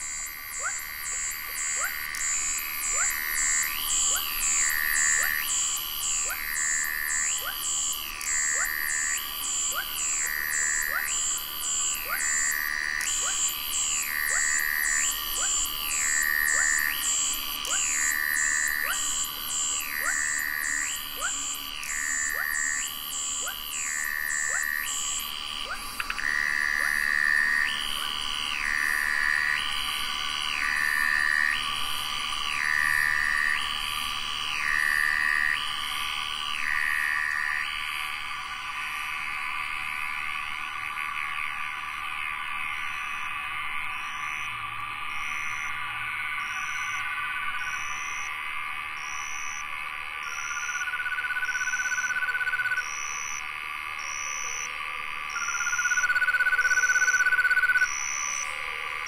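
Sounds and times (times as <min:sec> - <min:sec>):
dense shrill insect hum: 0:00.0 - 0:59.0.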